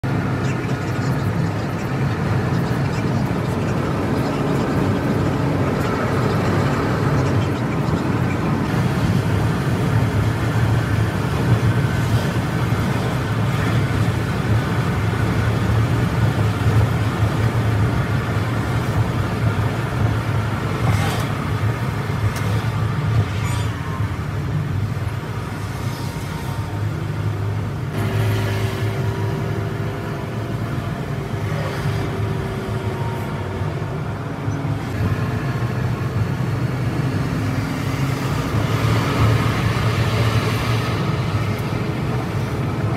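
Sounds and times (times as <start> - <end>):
coach engine and tyre drone: 0.0 - 42.9.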